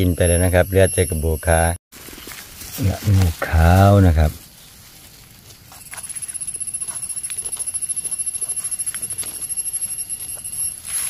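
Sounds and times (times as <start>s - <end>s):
insect trill: 0.0s - 1.7s, 2.8s - 11.0s.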